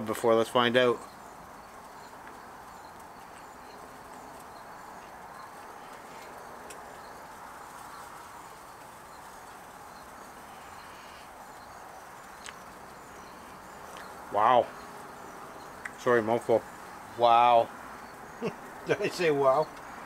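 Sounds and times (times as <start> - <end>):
insects chirping softly: 0.0 - 20.0.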